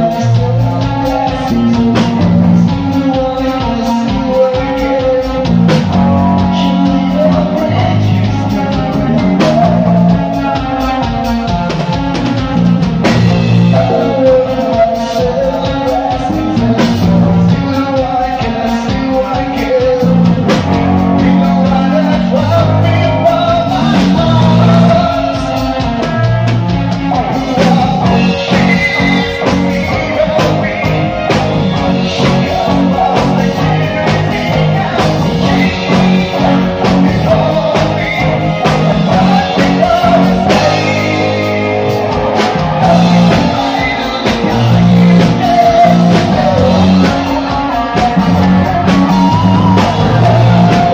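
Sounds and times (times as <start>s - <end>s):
drums with steady beat: 0.0s - 50.9s
electric guitar: 0.0s - 50.9s
man singing into microphone: 0.0s - 50.9s.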